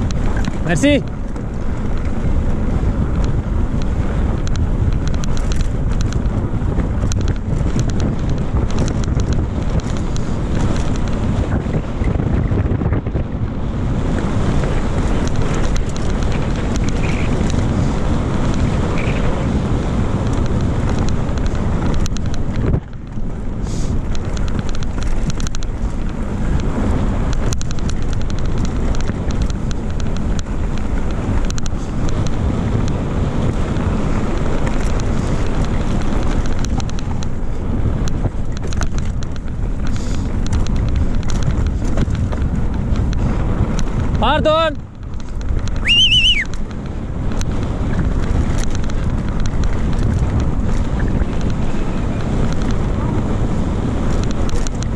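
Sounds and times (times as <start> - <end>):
tyres and bike crunching and rattling: 0.0 - 54.9
wind rushing over microphone: 0.0 - 54.9.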